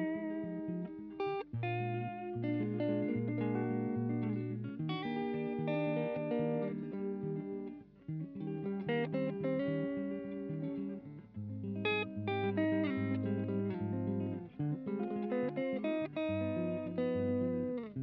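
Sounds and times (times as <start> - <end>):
instrumental background music: 0.0 - 18.0.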